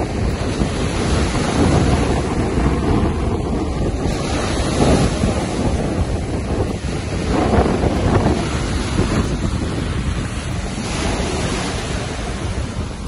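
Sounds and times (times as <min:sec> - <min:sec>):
choppy sea waves: 0:00.0 - 0:13.0
wind buffeting microphone: 0:00.0 - 0:13.0.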